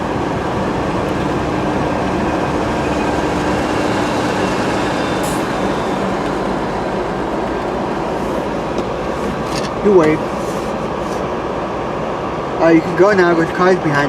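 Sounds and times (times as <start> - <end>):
steady hum: 0.0 - 13.0
freight train rumbling: 0.0 - 14.0.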